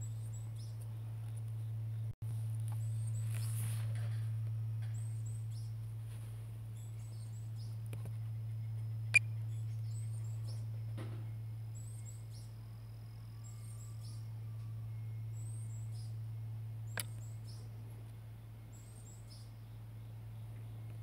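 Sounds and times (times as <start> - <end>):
small birds chirping: 0.0 - 4.2, 4.8 - 21.0
steady low hum: 0.0 - 21.0.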